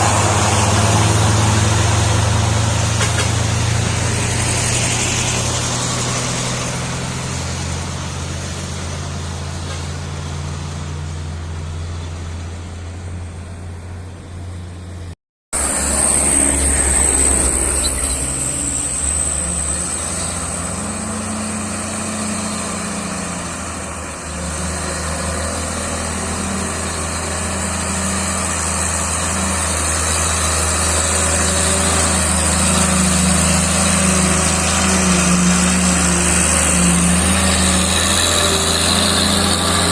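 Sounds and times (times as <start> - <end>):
truck diesel engine under load: 0.0 - 39.9.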